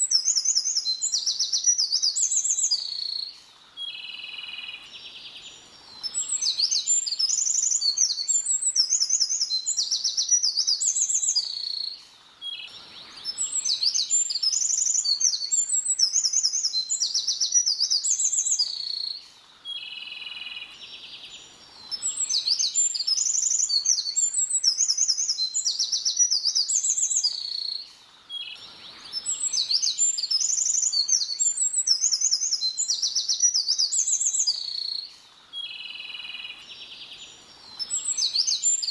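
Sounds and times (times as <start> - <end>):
small songbird singing: 0.0 - 38.9.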